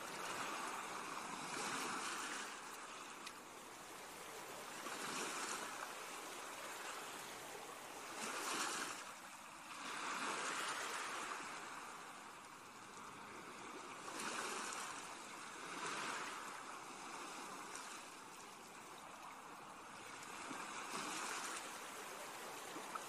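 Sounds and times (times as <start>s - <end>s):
ocean waves washing in: 0.0s - 23.0s.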